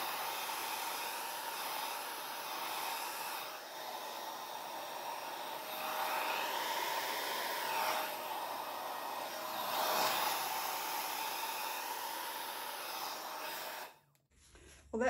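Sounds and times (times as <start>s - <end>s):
hair dryer blowing air: 0.0s - 14.2s.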